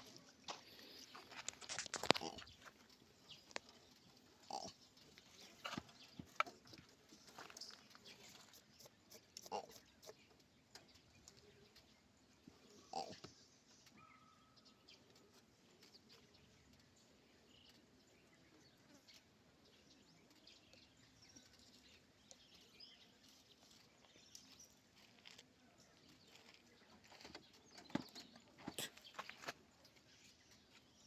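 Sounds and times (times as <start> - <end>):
faint chirps and clicks: 0.0 - 31.0.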